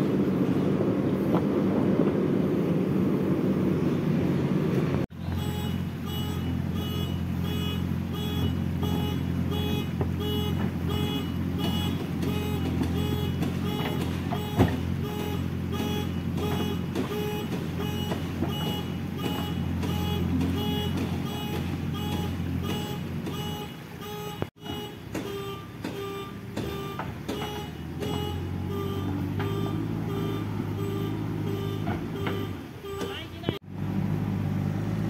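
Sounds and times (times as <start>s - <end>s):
diesel engine running: 0.0s - 35.0s
reversing alarm beeping: 5.2s - 33.6s.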